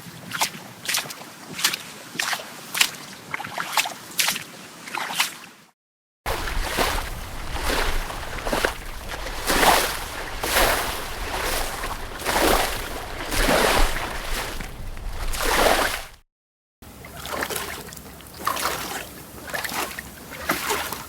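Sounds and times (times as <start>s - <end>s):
footsteps splashing through water: 0.0s - 5.5s, 6.3s - 16.2s, 17.1s - 21.0s.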